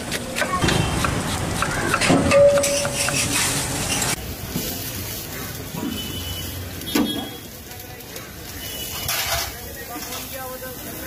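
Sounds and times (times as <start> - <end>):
griddle sizzling: 0.0 - 11.0.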